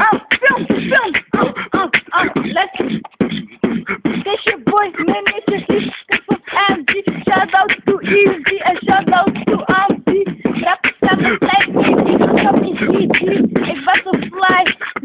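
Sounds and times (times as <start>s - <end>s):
person beatboxing: 0.0s - 15.0s.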